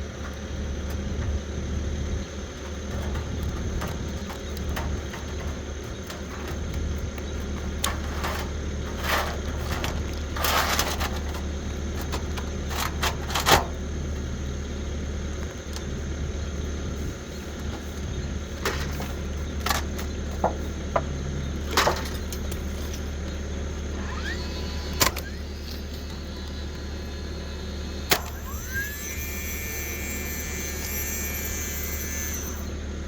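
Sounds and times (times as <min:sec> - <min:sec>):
steady low rumble: 0:00.0 - 0:28.5.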